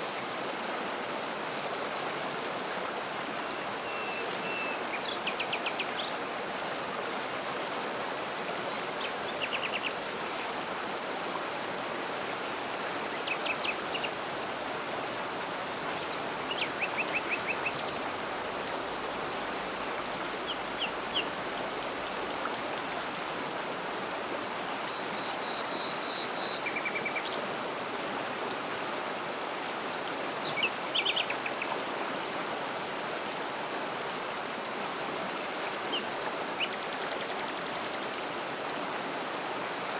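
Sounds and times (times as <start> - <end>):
waterfall rushing: 0.2 - 36.7.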